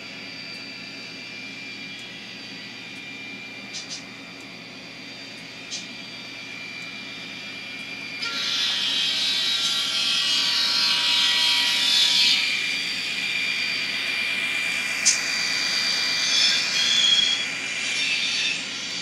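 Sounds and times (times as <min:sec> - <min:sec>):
thin mechanical drone with hiss: 0:00.0 - 0:19.0.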